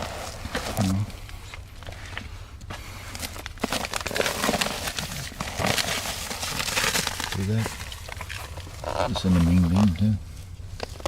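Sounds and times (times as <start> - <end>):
scraping and rustling: 0.0 - 11.0
steady low hum: 0.0 - 11.0.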